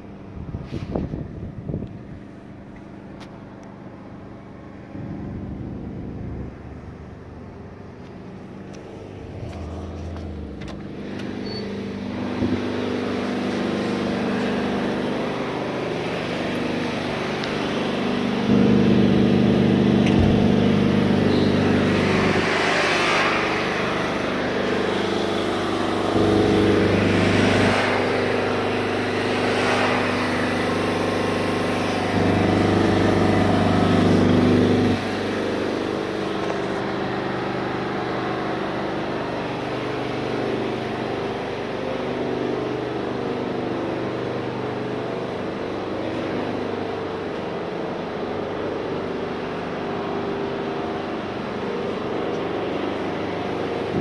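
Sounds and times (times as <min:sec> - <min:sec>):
fire truck engines humming: 0:00.0 - 0:54.0.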